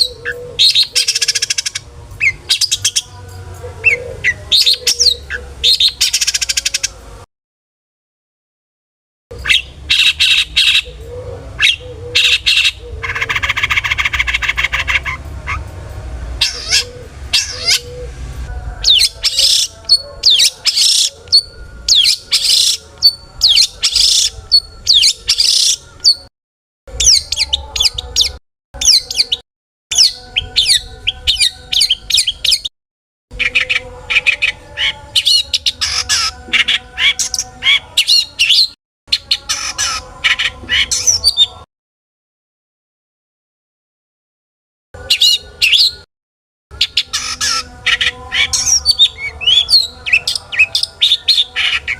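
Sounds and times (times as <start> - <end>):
shrike singing: 0.0 - 7.2, 9.3 - 26.3, 26.9 - 32.7, 33.3 - 41.7, 46.7 - 51.9.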